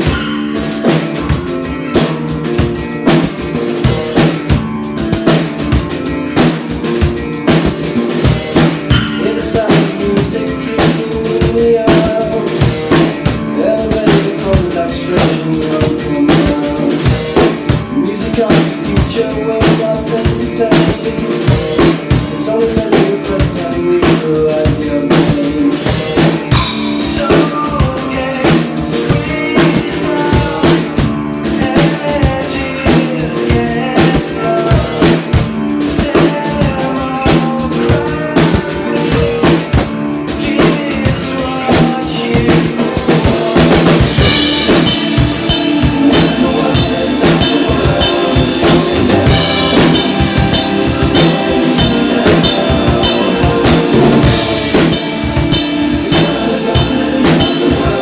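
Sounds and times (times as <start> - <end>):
music with drum kit beat: 0.0 - 58.0.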